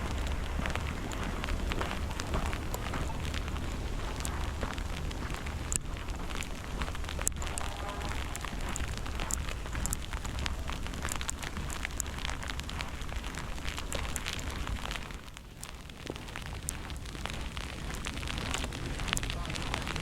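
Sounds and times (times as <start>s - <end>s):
snowstorm crackling and ticking: 0.0s - 20.0s
wind rumbling on microphone: 0.0s - 20.0s.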